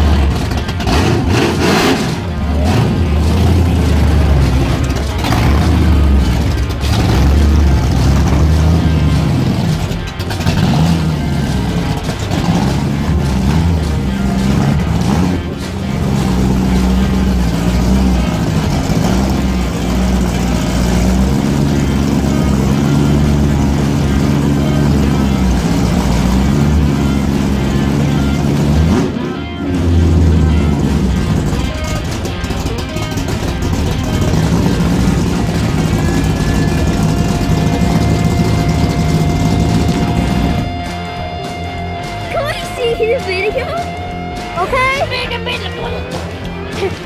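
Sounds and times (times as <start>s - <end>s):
race car engine running: 0.0s - 47.0s.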